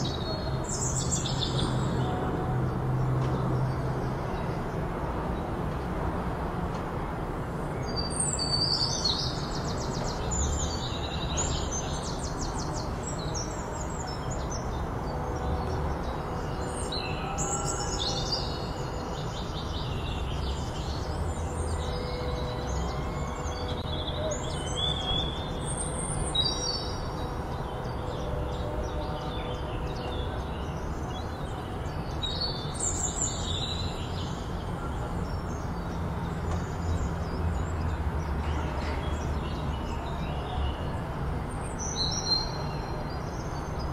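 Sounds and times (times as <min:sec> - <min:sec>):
small birds chirping and trilling: 0:07.8 - 0:43.9.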